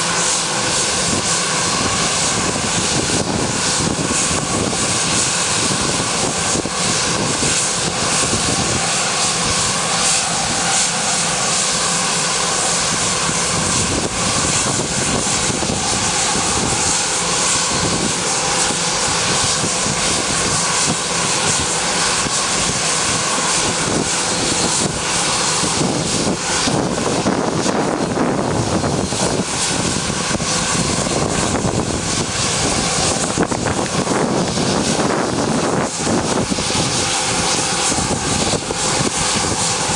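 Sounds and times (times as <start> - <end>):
jet engines whining and hissing: 0.0 - 39.9.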